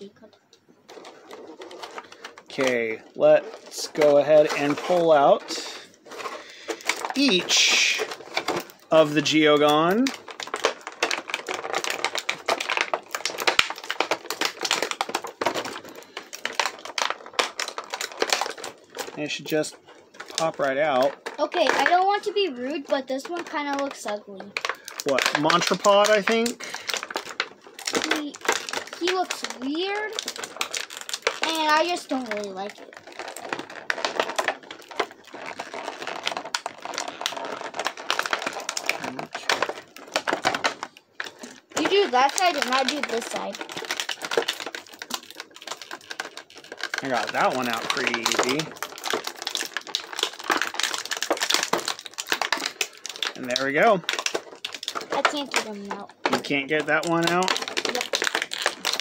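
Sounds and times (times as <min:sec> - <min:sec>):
plastic blister tray crinkling: 0:00.0 - 0:59.0.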